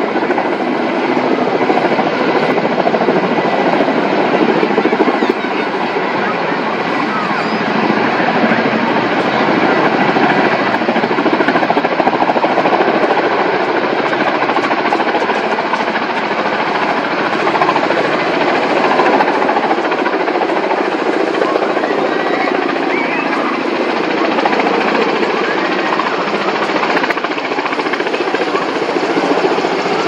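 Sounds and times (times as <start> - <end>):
helicopter rotor chop: 0.0 - 30.0
turbine engines running: 0.0 - 30.0.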